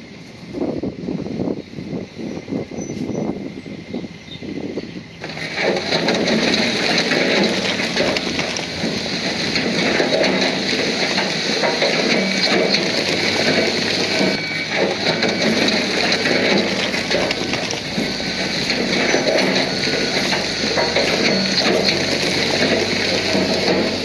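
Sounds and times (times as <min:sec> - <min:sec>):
bulldozer engine and tracks: 0:00.0 - 0:24.0.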